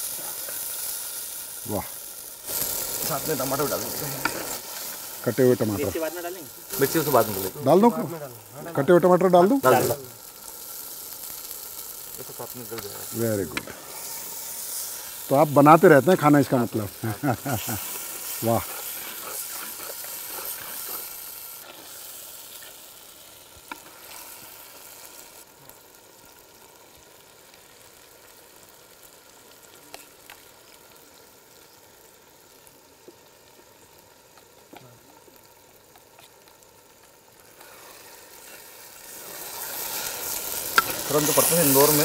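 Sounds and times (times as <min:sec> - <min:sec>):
vegetables sizzling in hot oil: 0:00.0 - 0:42.0.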